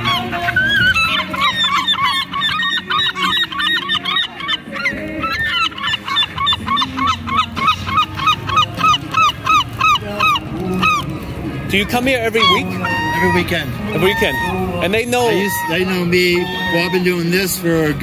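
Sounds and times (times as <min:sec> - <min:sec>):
gull loud yelping notes: 0:00.0 - 0:11.1, 0:12.0 - 0:17.6
gulls calling: 0:00.0 - 0:18.0.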